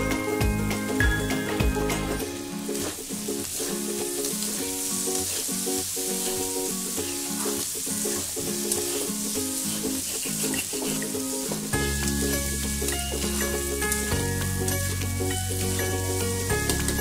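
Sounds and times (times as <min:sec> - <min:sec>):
background music: 0:00.0 - 0:17.0
potatoes sizzling in a pan: 0:00.6 - 0:17.0
metal spatula stirring: 0:02.7 - 0:17.0.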